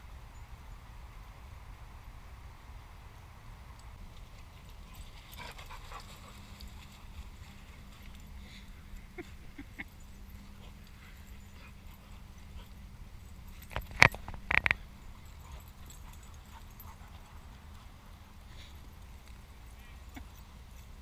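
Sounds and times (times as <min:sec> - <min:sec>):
dogs playing: 0:04.0 - 0:21.0.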